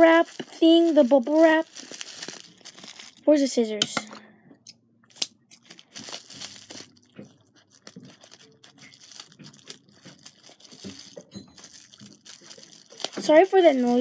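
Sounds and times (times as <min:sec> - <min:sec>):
bubble wrap crinkling and tearing: 0:00.0 - 0:03.5, 0:05.1 - 0:14.0.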